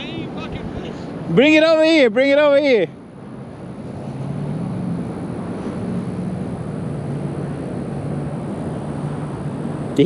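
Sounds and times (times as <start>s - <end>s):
highway traffic rushing: 0.0s - 10.0s.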